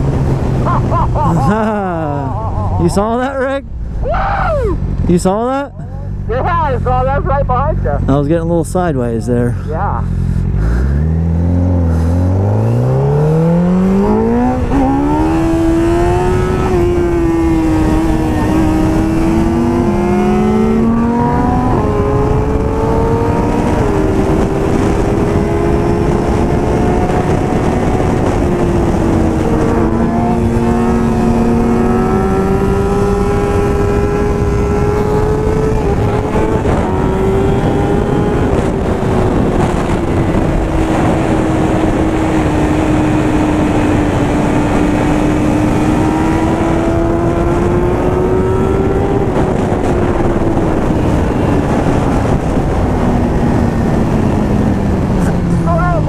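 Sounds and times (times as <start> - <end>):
rushing wind noise: 0.0 - 56.0
vehicle engine revving: 0.0 - 56.0.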